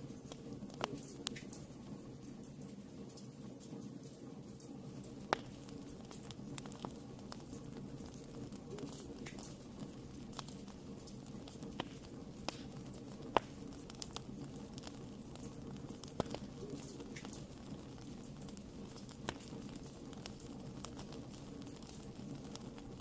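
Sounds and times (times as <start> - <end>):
wood fire burning: 0.0 - 23.0.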